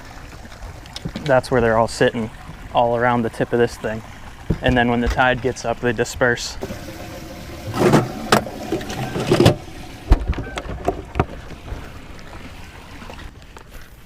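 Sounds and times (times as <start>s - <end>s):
wind and water wash: 0.0s - 13.5s.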